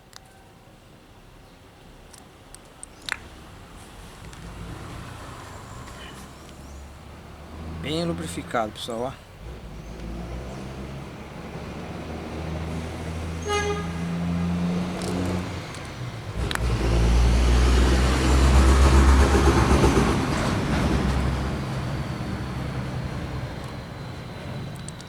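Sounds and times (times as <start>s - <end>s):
vehicle engine running low: 3.4s - 25.0s
vehicle passing close by: 4.0s - 24.8s.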